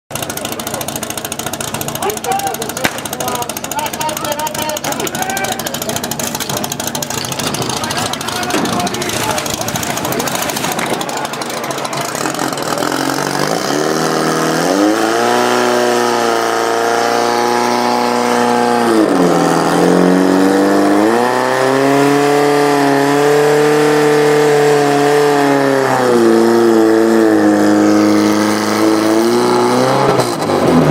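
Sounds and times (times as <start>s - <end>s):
fire pump engine running hard: 0.1s - 30.9s.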